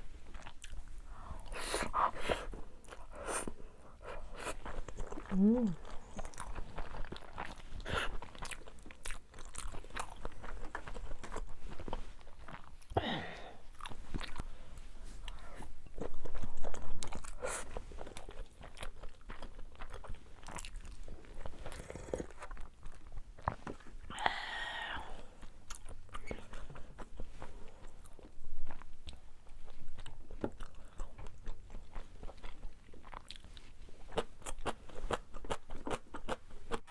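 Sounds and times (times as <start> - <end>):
chewing and crunchy bites: 0.2 - 13.0, 13.7 - 24.1, 25.4 - 36.9.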